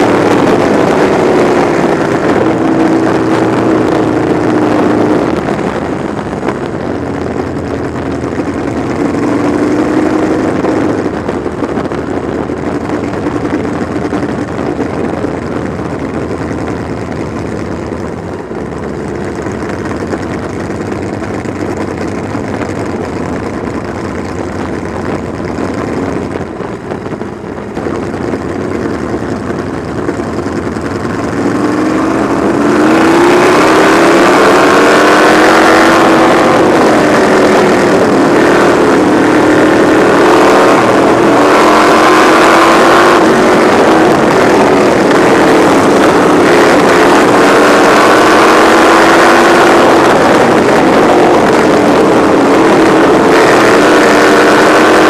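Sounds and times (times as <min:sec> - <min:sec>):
race car engine running: 0:00.0 - 0:55.0.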